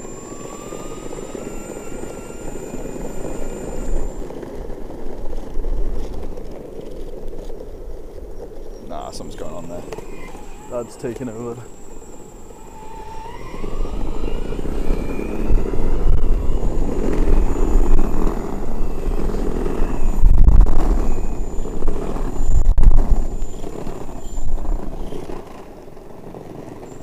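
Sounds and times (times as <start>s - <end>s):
faint electric motor whine: 0.0s - 27.0s
skateboard wheels rumbling on pavement: 0.0s - 27.0s
wind buffeting microphone: 0.0s - 27.0s.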